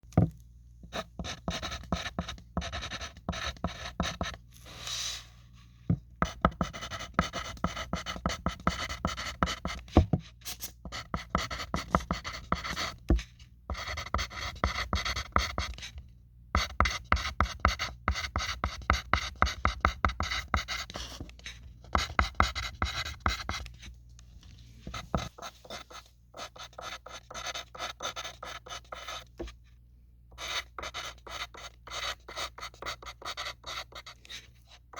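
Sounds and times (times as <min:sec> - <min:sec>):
pencil writing on paper: 0:00.9 - 0:04.4, 0:06.2 - 0:10.1, 0:10.9 - 0:15.9, 0:16.6 - 0:21.3, 0:21.9 - 0:23.8, 0:24.8 - 0:29.5, 0:30.3 - 0:34.9.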